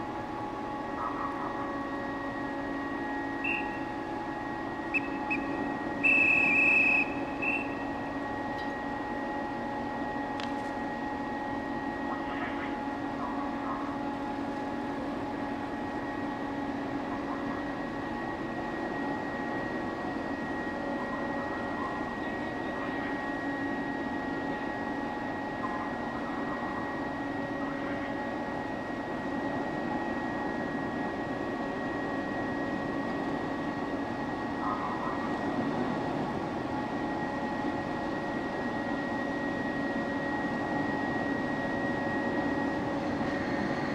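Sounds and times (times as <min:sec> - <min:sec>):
ship machinery hum: 0:00.0 - 0:43.9.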